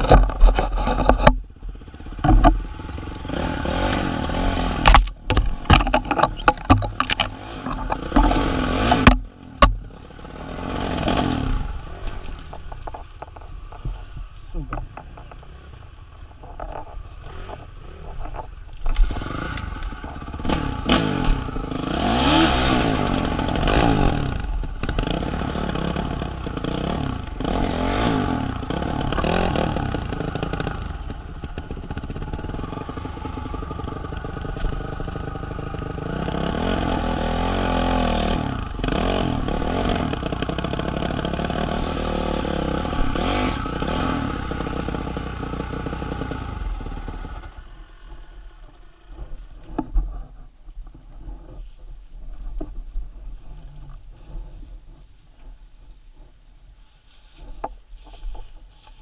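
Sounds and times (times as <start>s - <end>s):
clattering over rough ground: 0.0s - 21.6s, 22.9s - 59.0s
vehicle engine revving: 0.0s - 49.9s.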